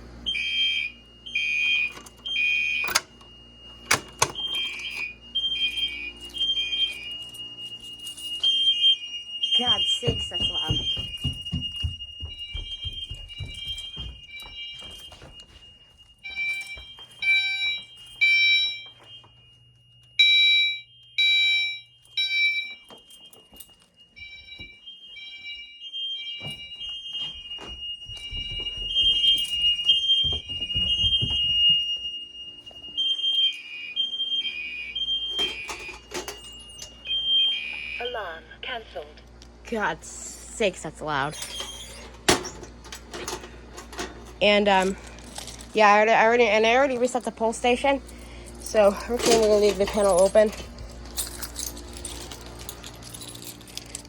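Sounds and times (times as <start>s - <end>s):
fire alarm horns sounding: 0.0s - 54.0s
alarm chime: 0.3s - 39.1s, 39.7s - 54.0s.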